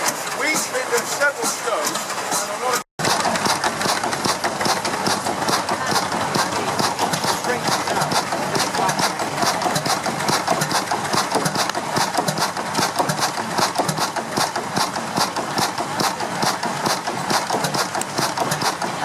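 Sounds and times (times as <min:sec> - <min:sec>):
stationary engine clattering: 0:00.0 - 0:19.0.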